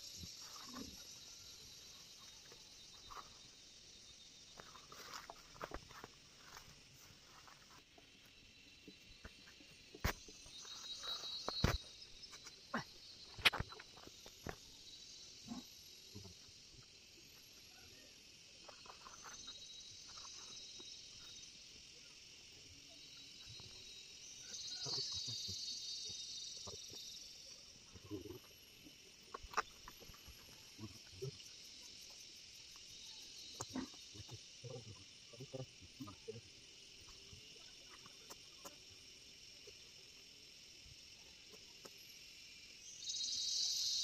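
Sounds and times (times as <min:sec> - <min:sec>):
faint insect chirring: 0:00.0 - 0:44.0.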